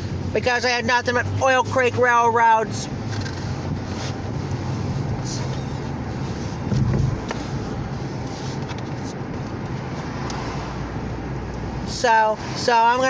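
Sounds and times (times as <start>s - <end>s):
vehicle rumble with road noise: 0.0s - 13.0s.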